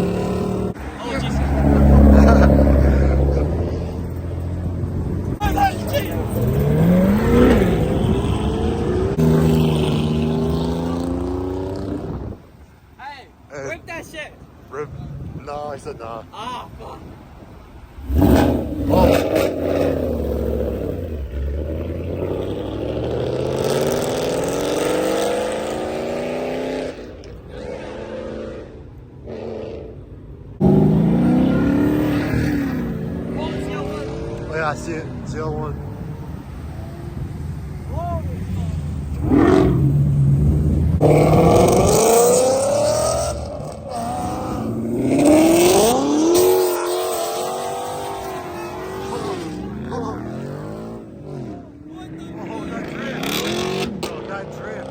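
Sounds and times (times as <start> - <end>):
car engine accelerating: 0.0 - 12.4, 17.7 - 54.9.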